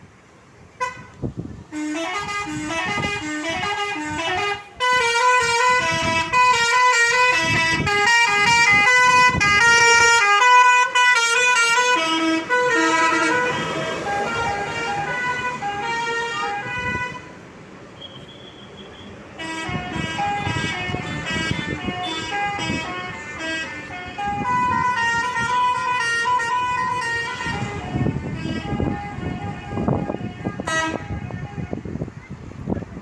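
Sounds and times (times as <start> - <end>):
multi-tone bus air horn tune: 0.8 - 32.1.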